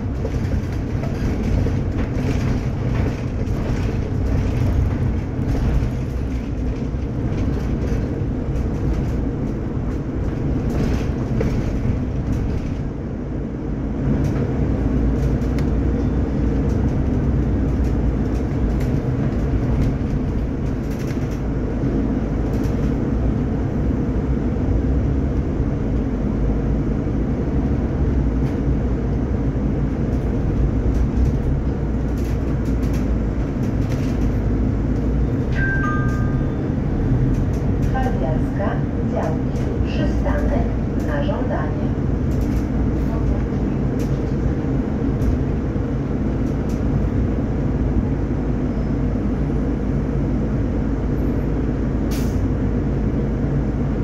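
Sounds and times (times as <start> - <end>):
bus drivetrain rumble: 0.0 - 54.0
road noise: 0.0 - 54.0.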